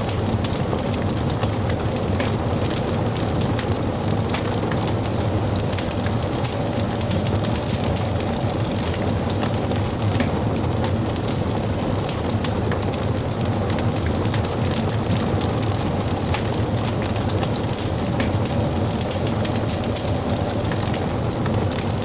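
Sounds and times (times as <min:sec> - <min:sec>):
crackles and pops of burning wood: 0:00.0 - 0:22.0
wood fire burning: 0:00.0 - 0:22.0.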